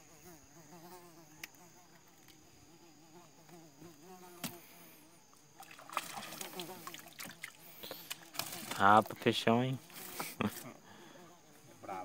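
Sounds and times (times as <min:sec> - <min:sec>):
flying insect buzzing: 0:00.0 - 0:11.8.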